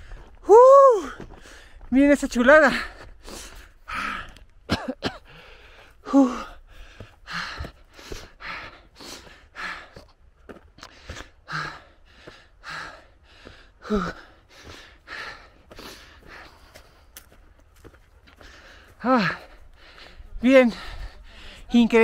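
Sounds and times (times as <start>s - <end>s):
person breathing hard and fast: 1.1s - 1.9s, 2.8s - 4.5s, 5.2s - 21.8s.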